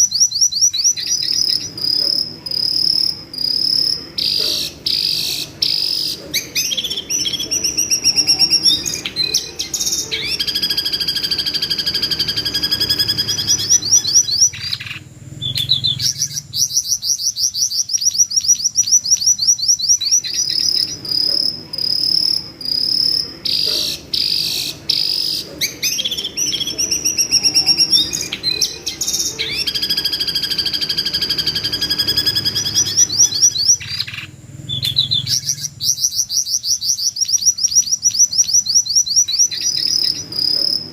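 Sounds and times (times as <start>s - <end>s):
bird screeching shrill notes: 0.0s - 40.9s.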